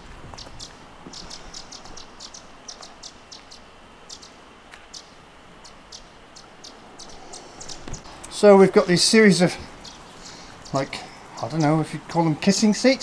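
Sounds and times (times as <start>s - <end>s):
low steady background noise: 0.0s - 13.0s
small birds chirping: 0.0s - 13.0s.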